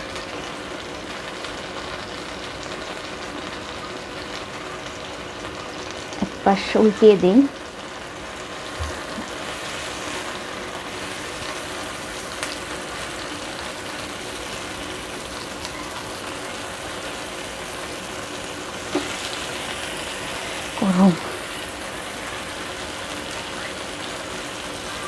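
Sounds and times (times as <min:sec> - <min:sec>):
meat sizzling in a pan: 0:00.0 - 0:25.0.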